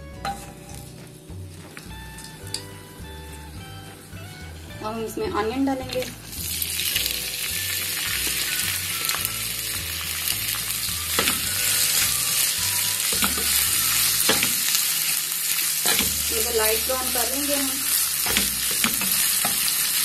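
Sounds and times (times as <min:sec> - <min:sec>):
onions sizzling in hot oil: 0:00.2 - 0:20.0.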